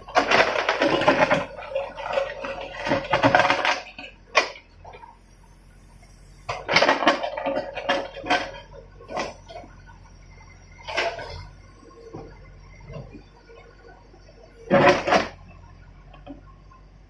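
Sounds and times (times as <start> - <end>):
excavator bucket scraping rubble: 0.0 - 5.2, 6.5 - 15.5
low engine hum: 0.0 - 17.0.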